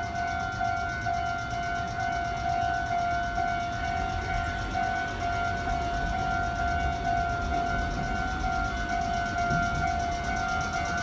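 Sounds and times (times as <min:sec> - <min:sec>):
level-crossing alarm bell: 0:00.0 - 0:11.0.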